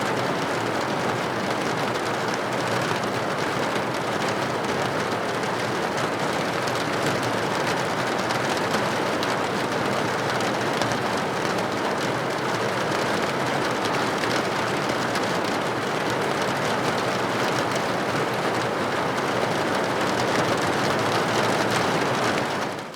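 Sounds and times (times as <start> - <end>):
heavy rain falling: 0.1 - 22.9.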